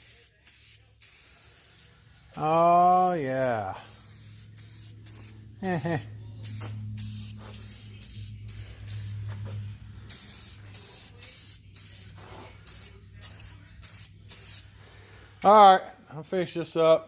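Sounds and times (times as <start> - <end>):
spray can hissing: 0.0 - 14.8.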